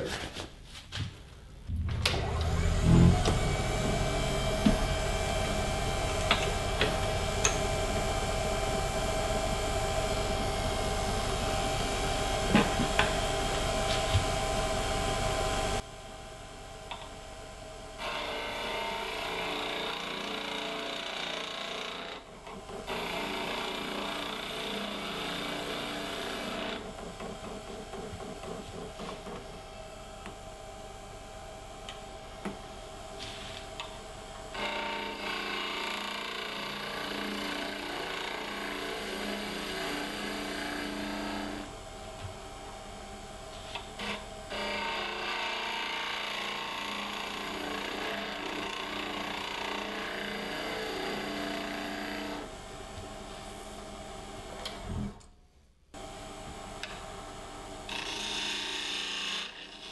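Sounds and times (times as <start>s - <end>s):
wood lathe motor whine: 1.9s - 15.8s, 16.7s - 55.1s, 56.0s - 59.9s.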